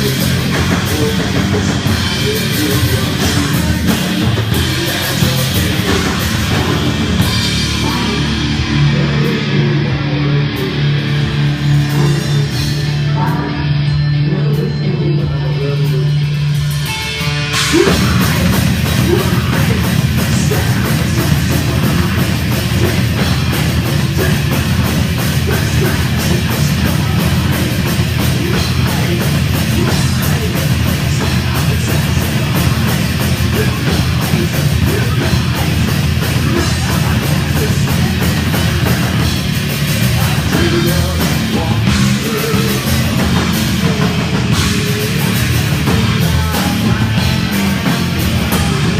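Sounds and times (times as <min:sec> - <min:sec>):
heavy rock band playing: 0:00.0 - 0:48.9.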